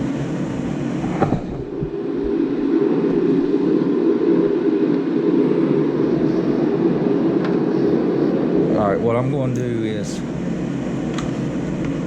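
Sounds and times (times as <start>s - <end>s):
heater droning: 0.0s - 12.0s.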